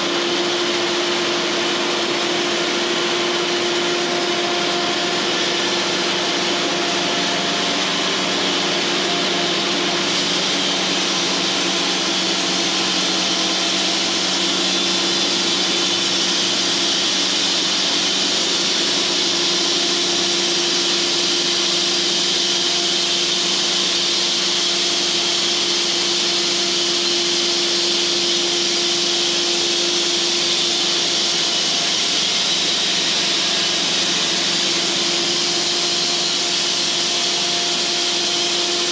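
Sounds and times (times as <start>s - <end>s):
band sawmill cutting log: 0.0s - 38.9s.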